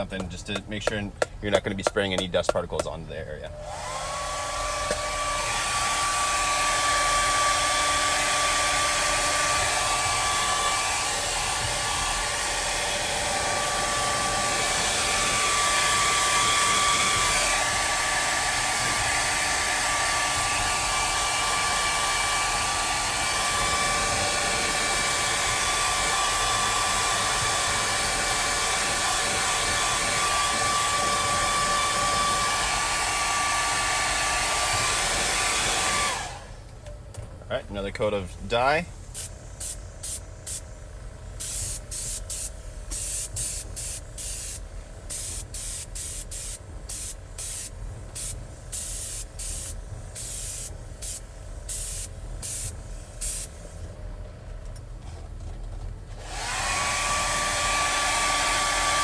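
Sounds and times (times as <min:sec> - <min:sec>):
hair dryer blowing: 0:00.0 - 0:36.7, 0:38.0 - 0:54.0, 0:56.2 - 0:59.0.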